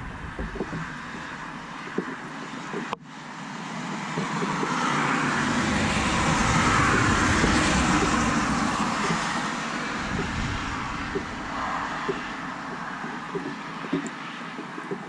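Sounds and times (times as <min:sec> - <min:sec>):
car passing on wet road: 0:00.0 - 0:15.0.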